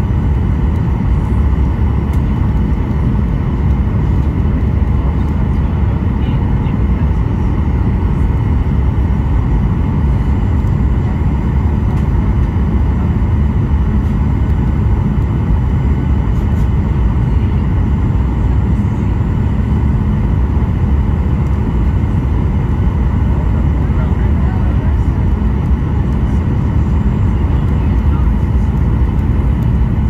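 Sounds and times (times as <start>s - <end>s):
airliner cabin engine rumble: 0.0s - 30.0s
faint steady whine: 0.0s - 30.0s.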